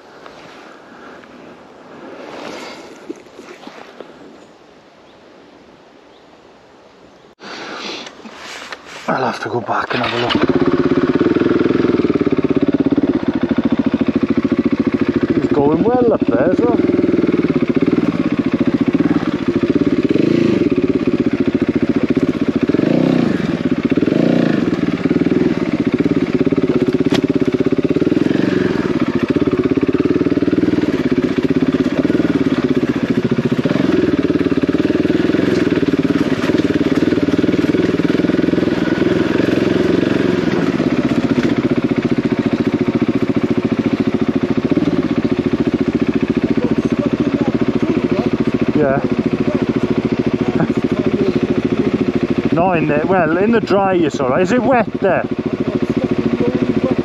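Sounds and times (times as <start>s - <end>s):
motorcycle engine revving: 9.4s - 57.0s.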